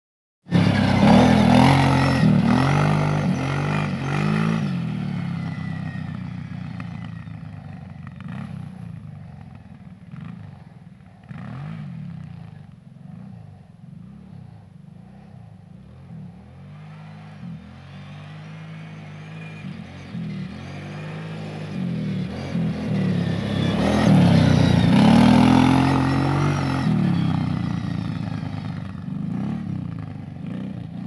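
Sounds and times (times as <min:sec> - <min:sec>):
quad engine revving: 0:00.5 - 0:09.0, 0:10.1 - 0:14.5, 0:15.9 - 0:31.0.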